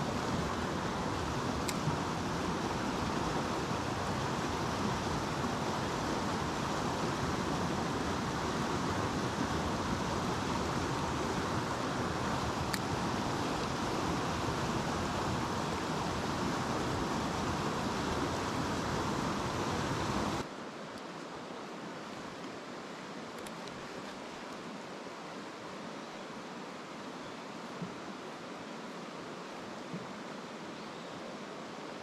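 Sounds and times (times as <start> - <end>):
mountain stream flowing: 0.0 - 32.0.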